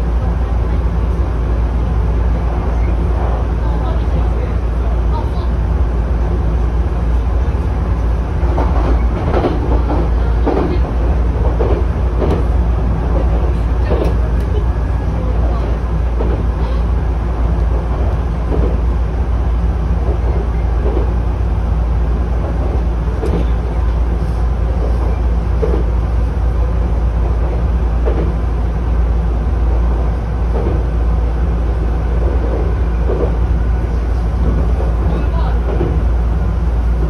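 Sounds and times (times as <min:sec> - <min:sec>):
train wheels rumbling: 0:00.0 - 0:37.0.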